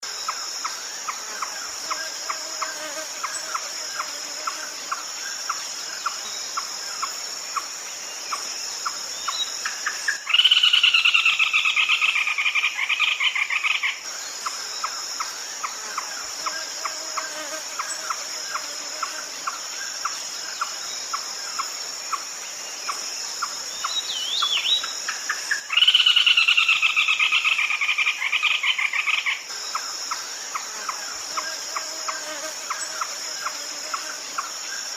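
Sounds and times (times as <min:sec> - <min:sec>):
high insect chorus: 0:00.0 - 0:34.9.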